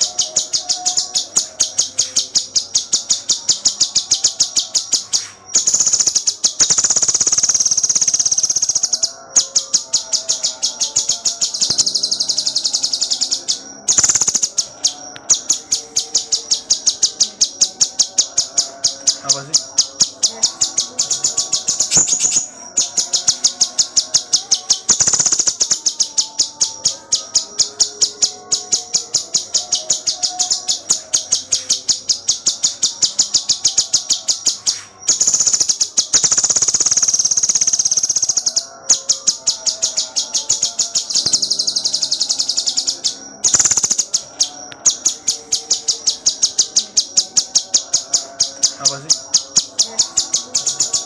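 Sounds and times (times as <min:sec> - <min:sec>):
bird chirping and trilling: 0:00.0 - 0:51.0.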